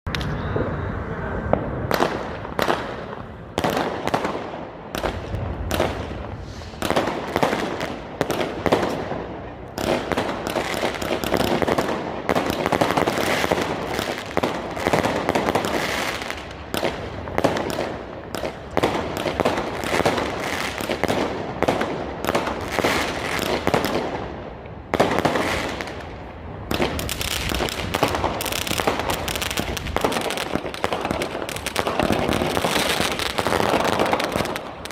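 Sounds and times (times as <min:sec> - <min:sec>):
fireworks bangs and crackling: 0:00.1 - 0:34.9.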